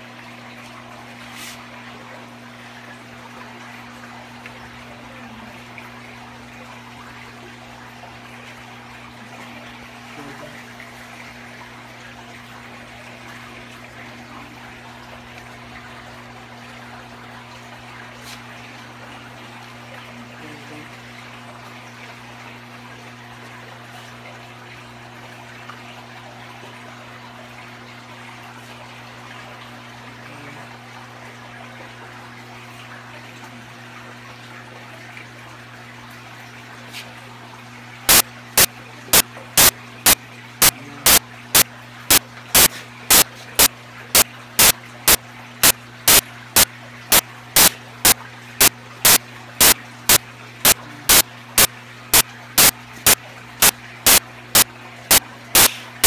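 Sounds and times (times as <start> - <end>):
pump humming: 0.0 - 56.0
water trickling and splashing: 0.0 - 56.0.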